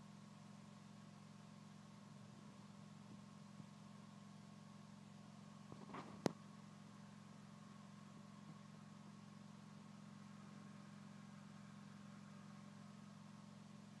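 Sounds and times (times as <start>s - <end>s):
faint low engine hum: 0.0s - 14.0s.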